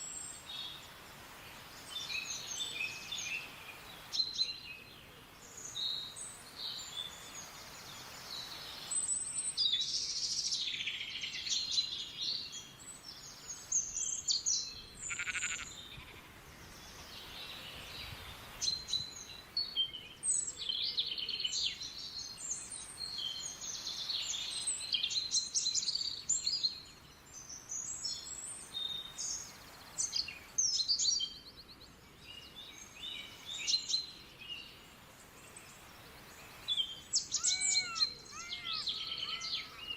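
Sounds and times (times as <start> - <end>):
soft steady background hiss: 0.0 - 39.9
songbirds chirping and singing: 0.0 - 39.9.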